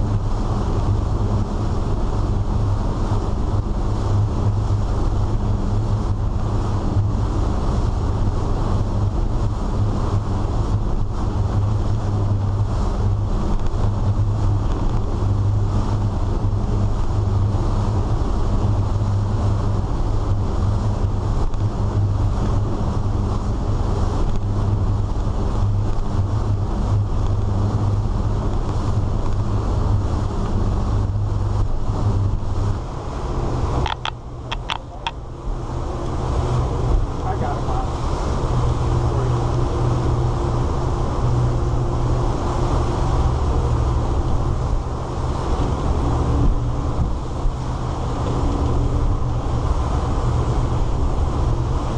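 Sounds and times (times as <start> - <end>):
boat engines droning: 0.0 - 51.9
water rushing: 0.0 - 51.9
wind: 0.0 - 51.9.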